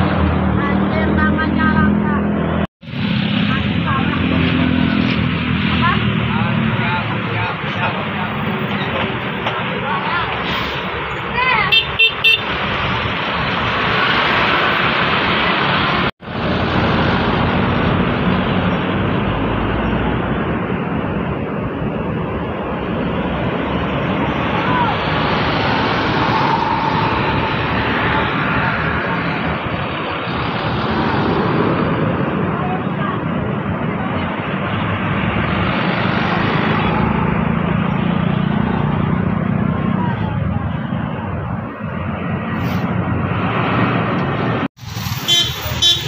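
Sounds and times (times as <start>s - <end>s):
buses driving past: 0.0s - 46.0s.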